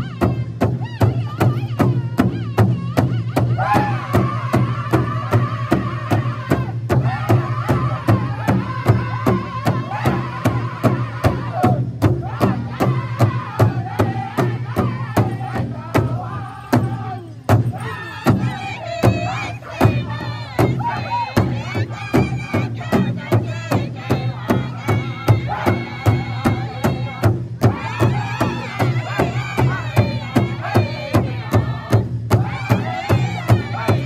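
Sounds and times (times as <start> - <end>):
large drum steady beat: 0.0 - 34.0
men singing in high voices: 0.0 - 34.0.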